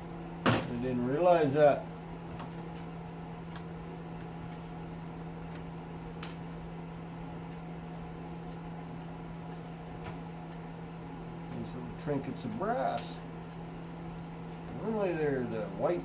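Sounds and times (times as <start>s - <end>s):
low fan hum: 0.0s - 16.0s.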